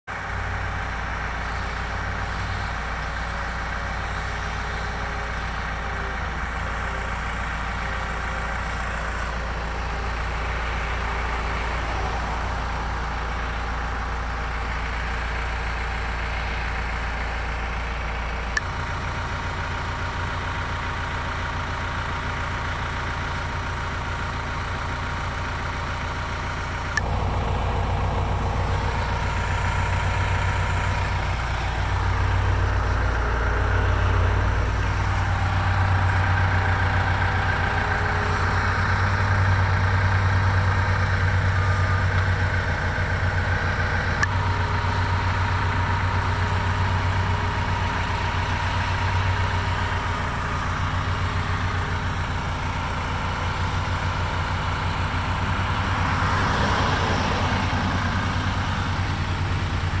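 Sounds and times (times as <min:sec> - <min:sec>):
diesel engine running: 0:00.1 - 1:00.0.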